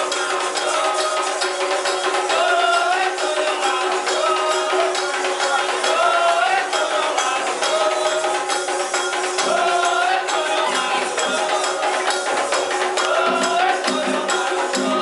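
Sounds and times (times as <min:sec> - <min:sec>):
hand percussion: 0:00.0 - 0:15.0
shaken rattles: 0:00.0 - 0:15.0
voices singing a wavering chant: 0:00.0 - 0:15.0.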